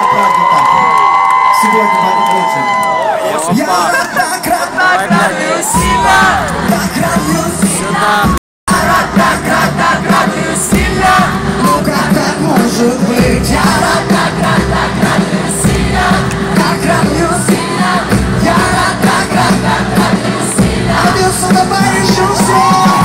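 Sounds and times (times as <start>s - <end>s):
crowd cheering and singing along: 0.0s - 23.0s
amplified pop band music: 1.5s - 23.0s.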